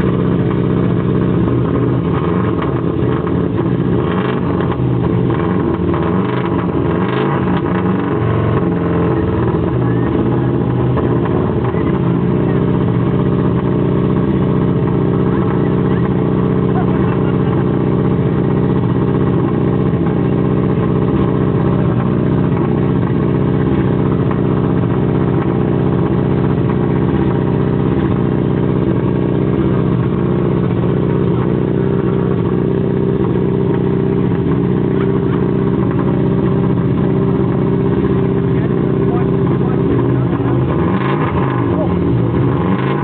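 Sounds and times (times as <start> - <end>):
rally car engine idling: 0.0 - 43.0.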